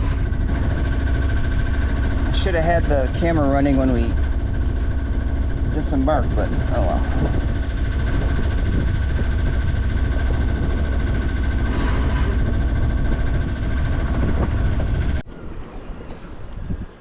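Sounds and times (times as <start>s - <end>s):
boat engine droning: 0.0s - 17.0s
faint steady whine: 0.0s - 17.0s.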